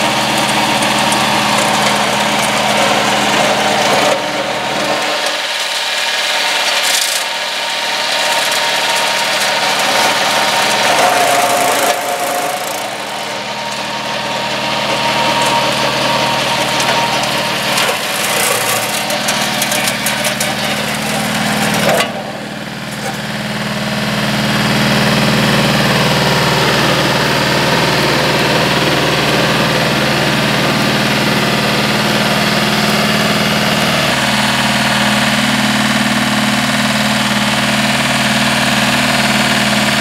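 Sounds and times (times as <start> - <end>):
diesel tractor engine hum: 0.0 - 40.0
flail mower shredding grass: 0.0 - 40.0.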